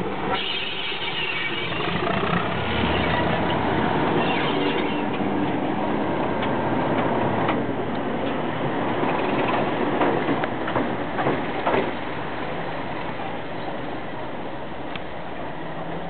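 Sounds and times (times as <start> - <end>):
diesel locomotive engine running: 1.1 - 16.0.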